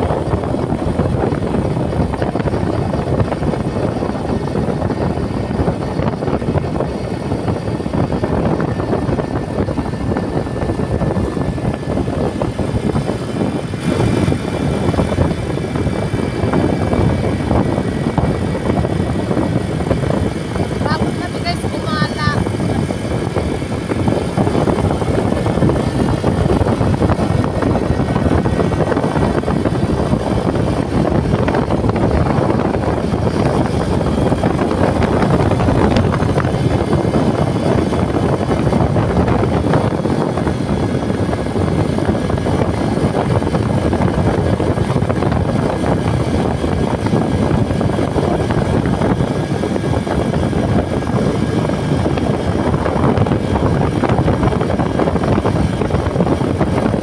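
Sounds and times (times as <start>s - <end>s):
motorcycle engine: 0.0s - 57.0s
road noise: 0.0s - 57.0s
wind buffeting microphone: 0.0s - 57.0s.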